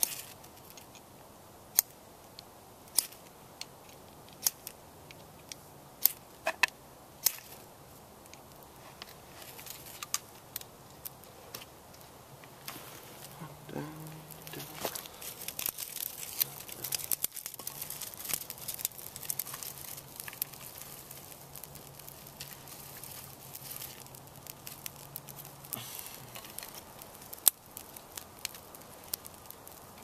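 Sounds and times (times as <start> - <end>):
fire popping: 0.0 - 30.0
twig fire crackling: 0.0 - 30.0
dry sticks snapping and rustling: 1.8 - 7.6, 8.3 - 13.4, 14.0 - 30.0.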